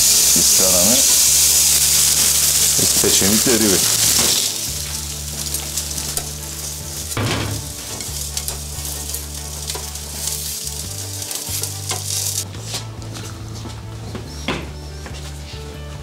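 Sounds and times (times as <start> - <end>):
fish sizzling on a grill: 0.0 - 13.0.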